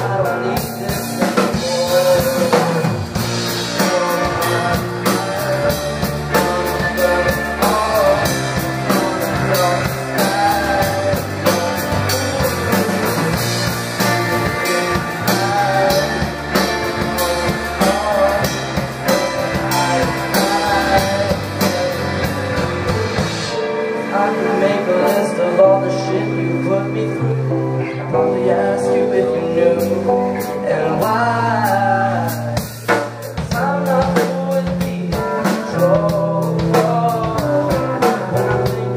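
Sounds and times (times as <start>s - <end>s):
drum kit with cymbal hits: 0.0s - 27.6s, 29.6s - 38.9s
rock band playing: 0.0s - 38.9s.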